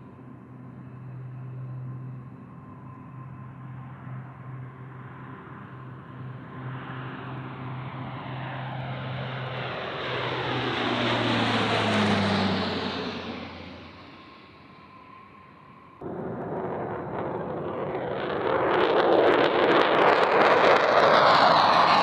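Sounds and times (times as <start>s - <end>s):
fighter jet engine passing: 0.0s - 22.0s.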